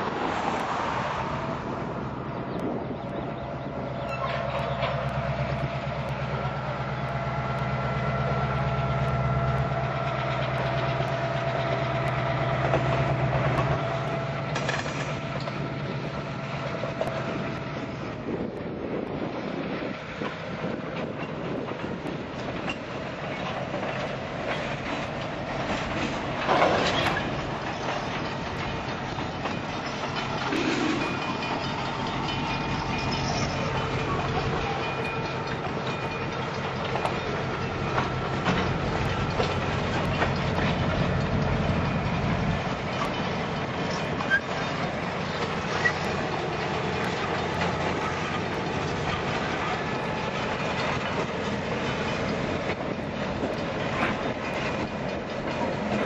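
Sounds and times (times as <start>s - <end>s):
diesel locomotive engine: 0.0s - 56.0s
freight train rumble: 0.0s - 56.0s
train wheels clicking over rail joints: 2.4s - 56.0s.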